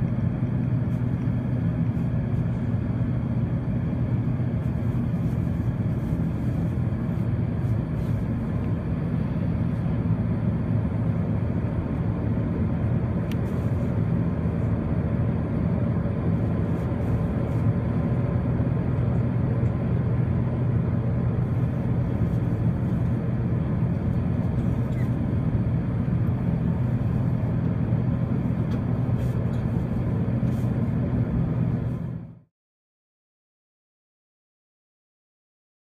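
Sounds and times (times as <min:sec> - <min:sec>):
jet engine drone in cabin: 0:00.0 - 0:32.5.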